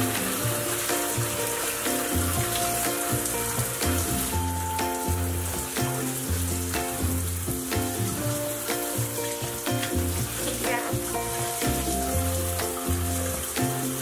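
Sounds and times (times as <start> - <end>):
background music: 0.0 - 14.0
shower spraying onto floor: 0.0 - 14.0.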